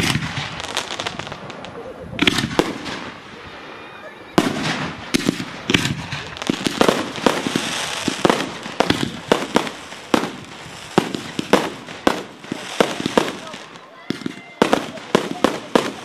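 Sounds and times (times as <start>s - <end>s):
continuous hiss: 0.0s - 16.0s
fireworks bursting with sharp bangs: 0.0s - 16.0s.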